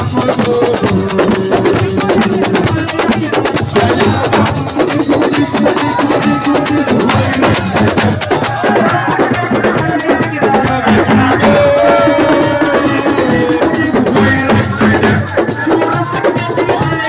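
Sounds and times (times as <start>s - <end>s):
drums and shakers beat: 0.0s - 17.0s.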